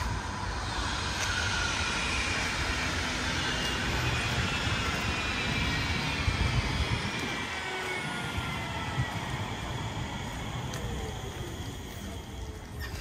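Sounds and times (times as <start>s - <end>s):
rumble of running train: 0.0s - 13.0s
traction motor whine: 0.0s - 13.0s.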